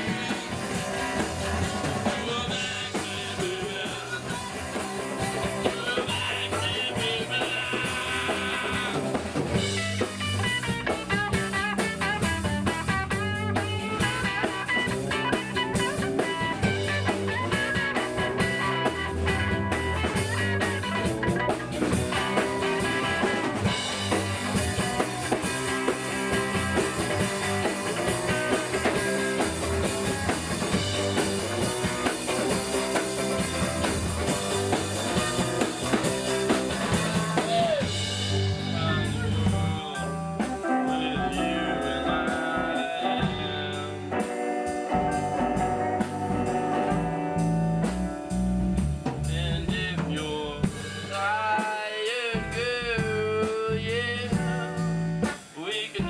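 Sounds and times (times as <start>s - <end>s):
rock music: 0.0s - 56.0s.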